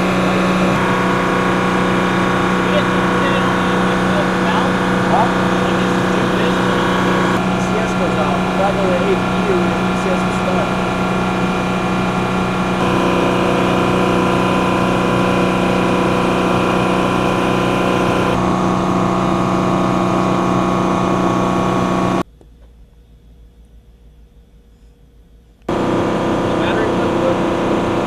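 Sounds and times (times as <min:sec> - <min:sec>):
machinery whining over low rumble: 0:00.0 - 0:22.2, 0:25.6 - 0:28.0.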